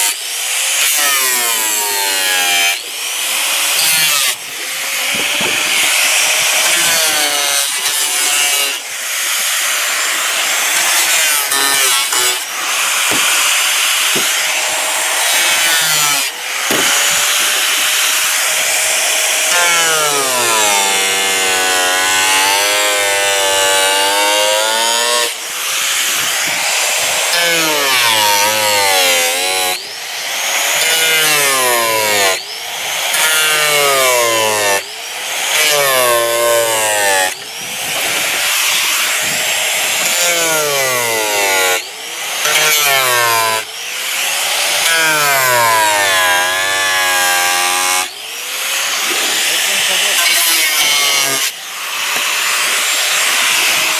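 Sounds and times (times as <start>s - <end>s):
angle grinder cutting plastic: 0.0s - 53.9s.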